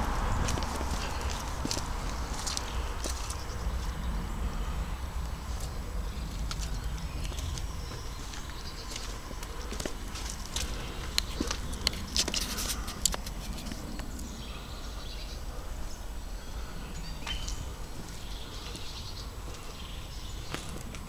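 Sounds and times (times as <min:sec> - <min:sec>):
footsteps crunching on gravel: 0:00.0 - 0:04.1, 0:05.2 - 0:14.2, 0:17.1 - 0:21.0.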